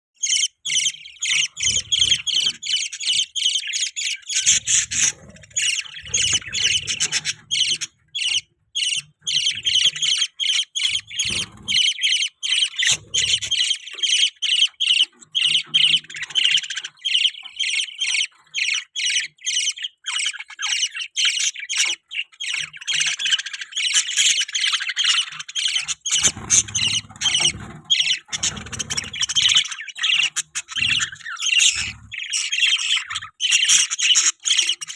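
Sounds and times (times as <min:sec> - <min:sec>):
budgerigars chirping and squawking: 0:00.2 - 0:34.9.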